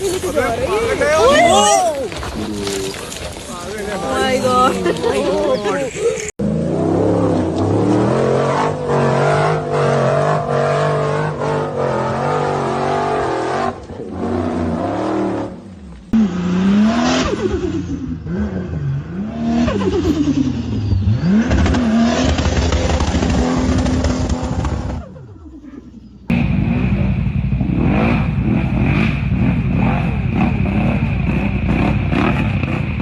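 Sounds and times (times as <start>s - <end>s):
off-road engines revving hard: 0.0s - 33.0s.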